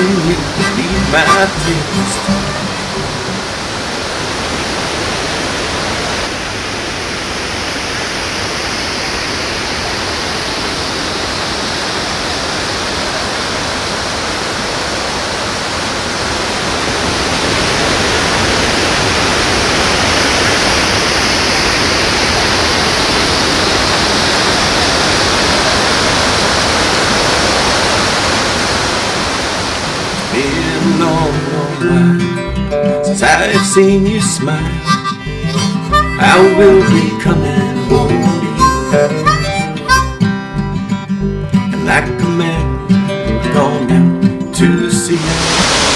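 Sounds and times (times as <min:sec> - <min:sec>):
waterfall rushing: 0:00.0 - 0:41.2, 0:44.9 - 0:45.9.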